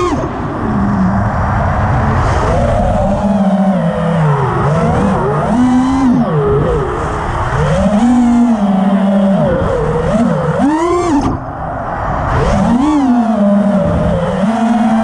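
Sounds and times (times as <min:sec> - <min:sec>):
drone motors buzzing whine: 0:00.0 - 0:15.0.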